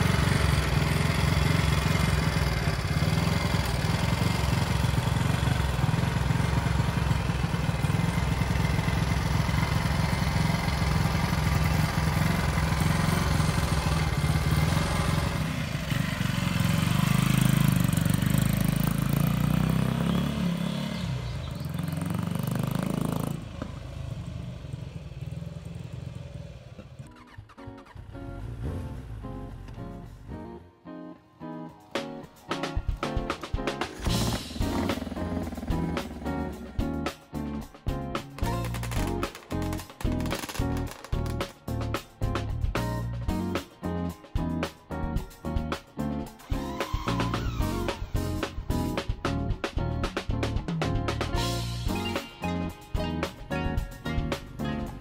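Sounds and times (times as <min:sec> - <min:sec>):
motorcycle engine idling and revving: 0:00.0 - 0:30.3, 0:32.9 - 0:37.2, 0:38.2 - 0:43.7, 0:46.4 - 0:55.0.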